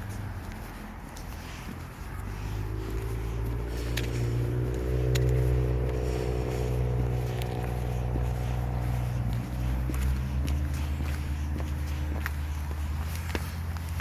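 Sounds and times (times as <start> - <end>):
vehicle engine pulling away: 0.0 - 14.0
low rumble: 2.2 - 13.7.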